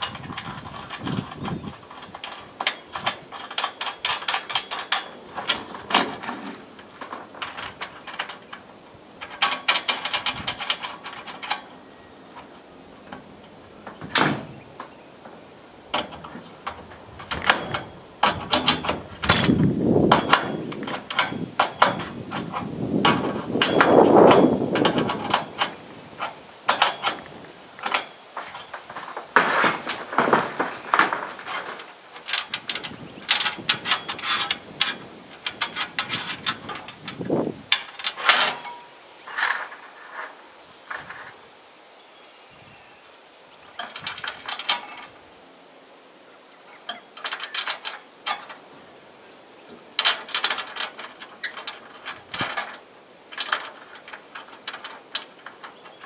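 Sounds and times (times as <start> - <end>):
tools clicking and knocking: 0.0 - 12.5, 13.1 - 40.3, 43.7 - 45.2, 46.8 - 48.6, 50.0 - 56.0
scraping of parts: 0.0 - 41.8, 43.5 - 45.4, 46.5 - 56.0.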